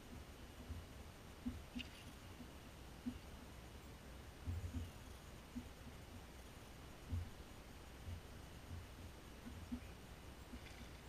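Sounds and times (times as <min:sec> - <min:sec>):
faint muffled low rumble: 0:00.0 - 0:11.0.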